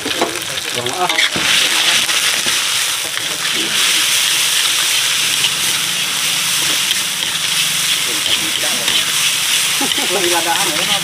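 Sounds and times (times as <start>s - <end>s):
metal spatula stirring in wok: 0.0s - 11.0s
paste sizzling in hot oil: 0.0s - 11.0s.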